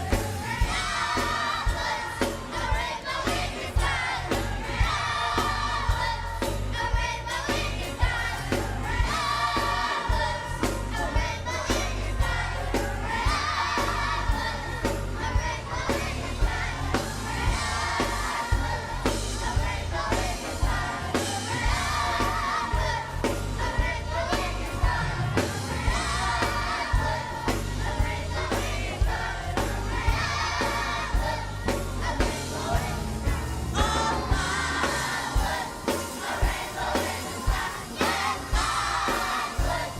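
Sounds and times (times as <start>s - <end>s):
band with steady drumbeat: 0.0s - 39.9s
youth choir singing gospel: 0.0s - 39.9s.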